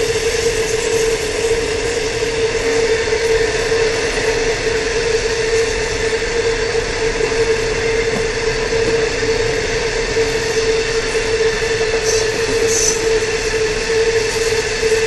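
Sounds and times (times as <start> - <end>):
freight train wheels on rail: 0.0 - 15.0.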